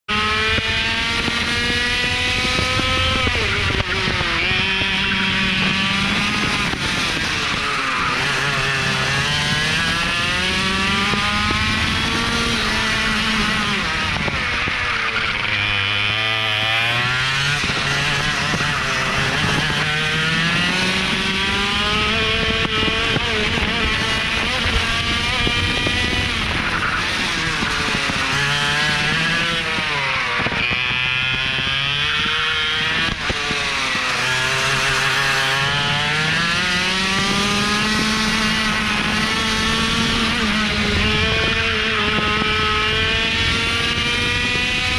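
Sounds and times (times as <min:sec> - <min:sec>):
kart engine racing: 0:00.1 - 0:44.9.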